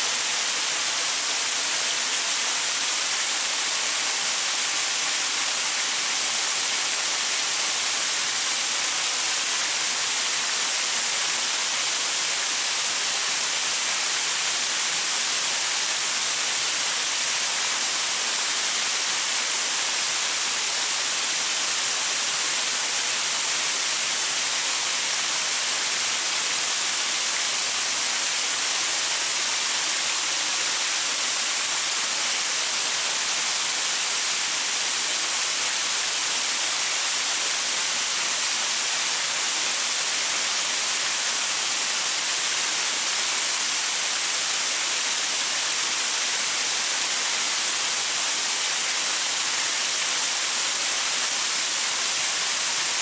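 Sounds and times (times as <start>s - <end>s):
waterfall splashing over rocks: 0.0s - 53.0s.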